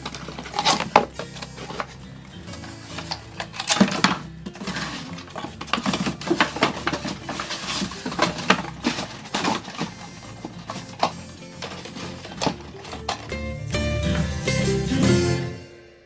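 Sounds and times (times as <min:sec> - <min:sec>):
cardboard box handling: 0:00.0 - 0:13.4.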